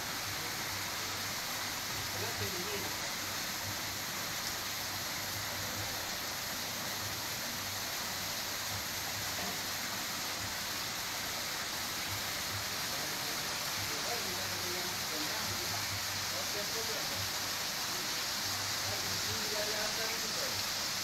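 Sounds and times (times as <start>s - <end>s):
running water in pond: 0.0s - 21.0s.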